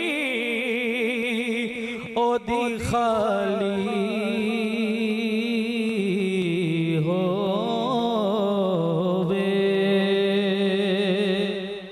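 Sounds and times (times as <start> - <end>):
man singing unaccompanied: 0.0 - 11.9.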